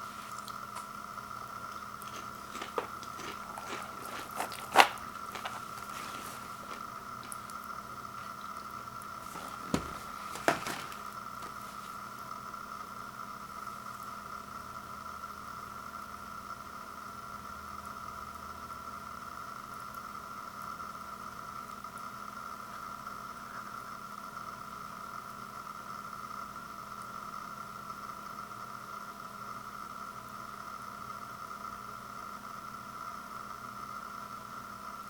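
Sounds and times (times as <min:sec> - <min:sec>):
steady hum with hiss: 0:00.0 - 0:35.0.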